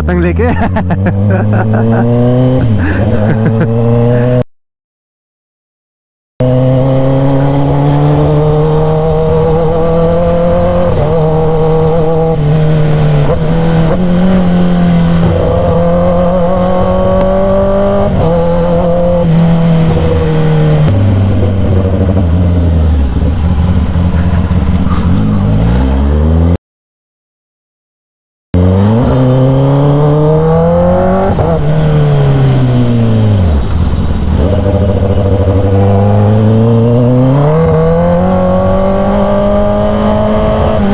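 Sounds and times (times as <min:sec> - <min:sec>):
motorcycle engine revving: 0:00.0 - 0:04.4, 0:06.4 - 0:26.6, 0:28.6 - 0:40.9.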